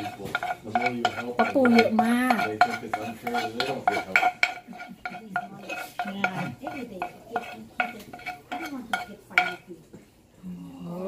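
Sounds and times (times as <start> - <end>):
metal spoon clinking in wooden mortar: 0.0 - 9.6.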